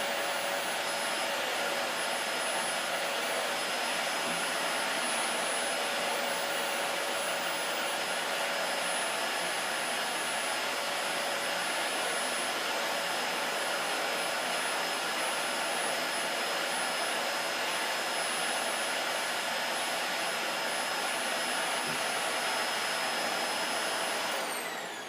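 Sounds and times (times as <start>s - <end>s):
vacuum cleaner whining: 0.0s - 25.0s.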